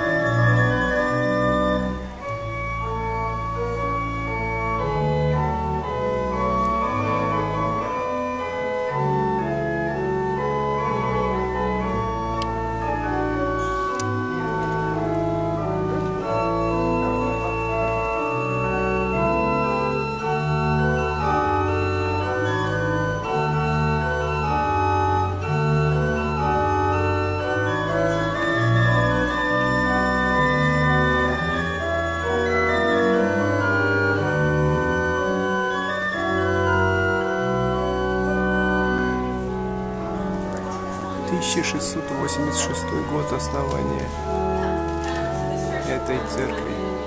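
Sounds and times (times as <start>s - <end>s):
pipe organ playing chords: 0.0s - 47.0s.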